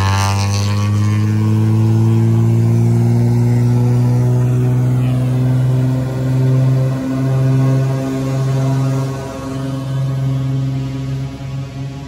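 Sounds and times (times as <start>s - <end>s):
plane piston engine and propeller: 0.0s - 12.0s.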